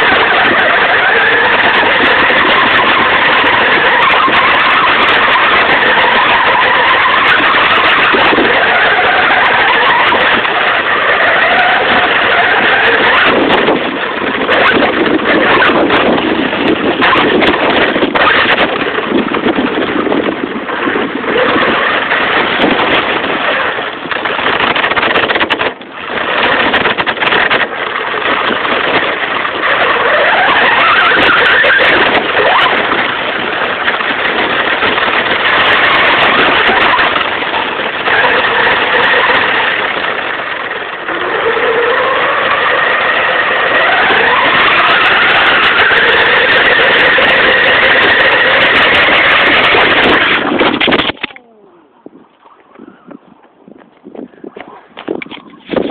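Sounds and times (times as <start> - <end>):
radio-controlled truck motor: 0.0 - 51.4.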